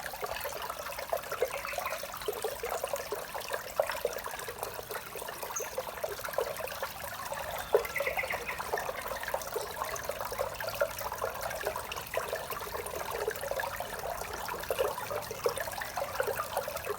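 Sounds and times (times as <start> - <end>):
small waterfall splashing: 0.0 - 16.9.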